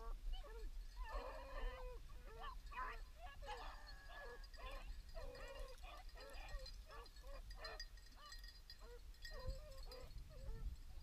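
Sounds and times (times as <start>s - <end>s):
beagles baying: 0.0s - 10.7s.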